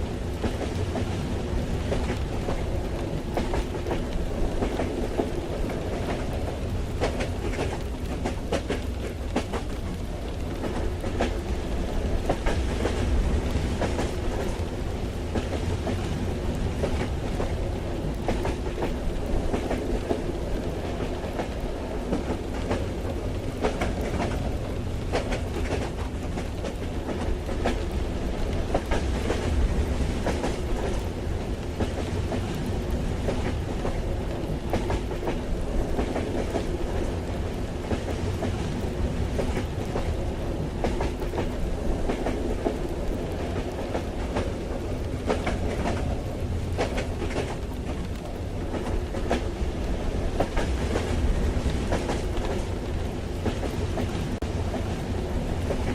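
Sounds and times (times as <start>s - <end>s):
railway carriage rumble: 0.0s - 55.9s.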